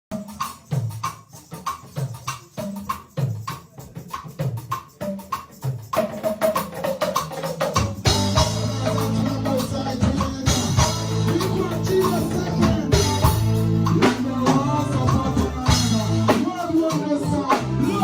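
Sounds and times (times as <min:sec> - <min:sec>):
live band playing dancehall: 0:00.1 - 0:18.0.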